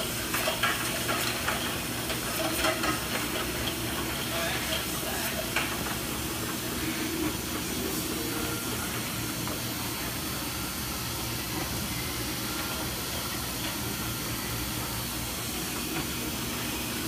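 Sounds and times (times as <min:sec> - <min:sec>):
bottle conveyor machine noise: 0:00.0 - 0:17.0.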